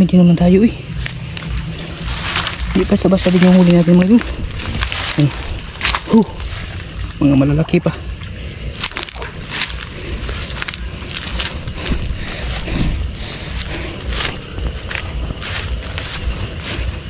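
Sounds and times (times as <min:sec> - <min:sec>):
crickets chirping: 0:00.0 - 0:17.0
footsteps through grass and brush: 0:00.4 - 0:07.4, 0:08.1 - 0:17.0.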